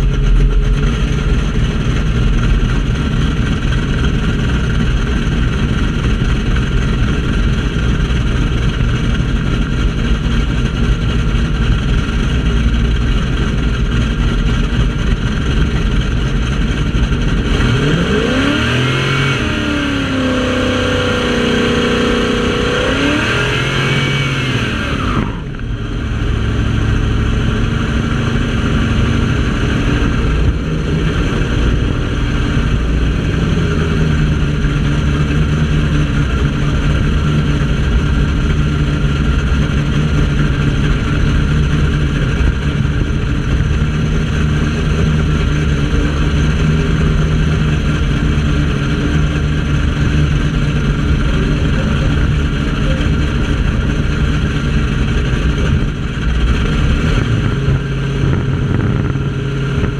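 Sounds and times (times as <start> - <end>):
engine rumbling at low revs: 0.0 - 59.9.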